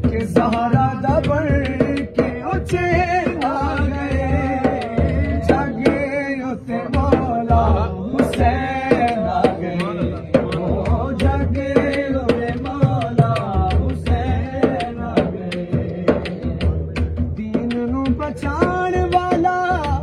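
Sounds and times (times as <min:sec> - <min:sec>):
frame drum beaten by hand: 0:00.0 - 0:20.0
man singing devotional song: 0:00.0 - 0:20.0.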